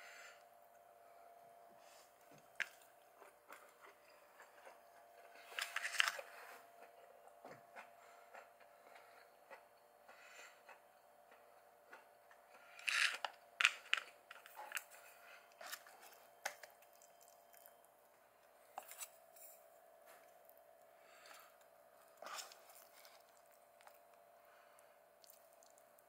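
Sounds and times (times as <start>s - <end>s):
faint steady hum: 0.0s - 26.0s
food crunching and chewing: 2.2s - 26.0s.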